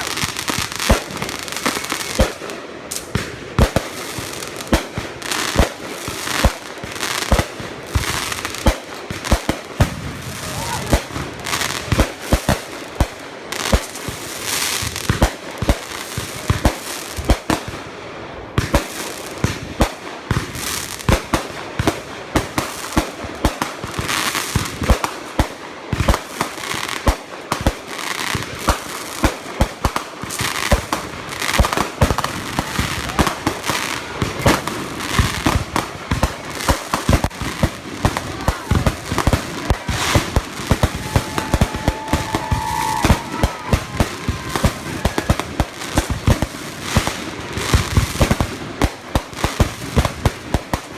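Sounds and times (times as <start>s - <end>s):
fireworks crackling: 0.0s - 50.9s
fireworks firing rapidly: 0.0s - 50.9s.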